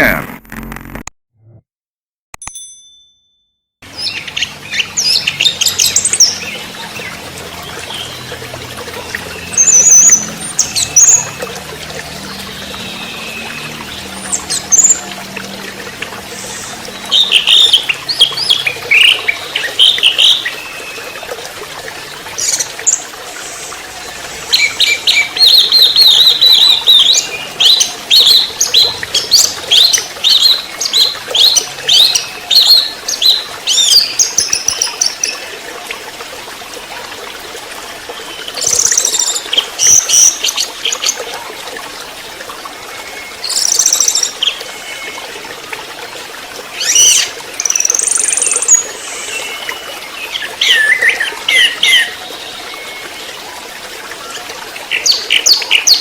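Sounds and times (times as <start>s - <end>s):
water trickling: 3.8s - 56.0s.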